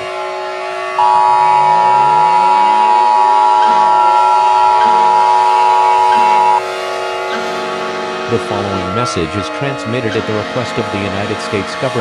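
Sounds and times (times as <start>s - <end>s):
droning background music: 0.0s - 12.0s
loud steady alarm tone: 0.0s - 12.0s.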